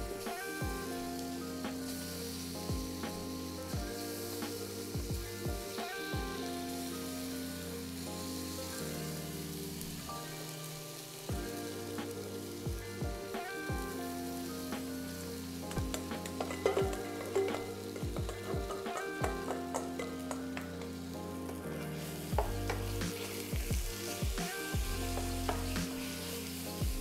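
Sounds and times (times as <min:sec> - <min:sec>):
background music with a beat: 0:00.0 - 0:09.4, 0:11.2 - 0:27.0
chicken sizzling in a skillet: 0:00.0 - 0:27.0.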